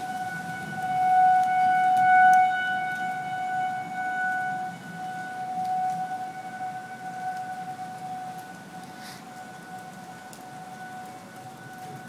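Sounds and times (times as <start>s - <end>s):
warning siren steady tone: 0.0s - 12.0s.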